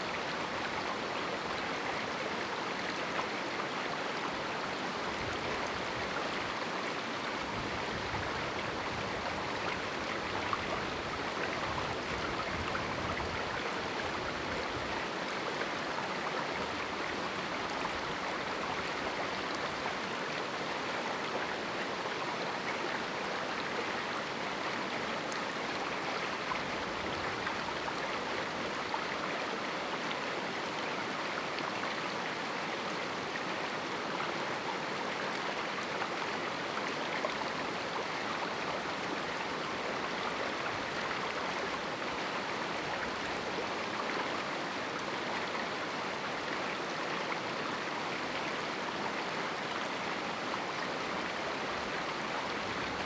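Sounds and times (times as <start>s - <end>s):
river flowing over rocks: 0.0s - 53.0s.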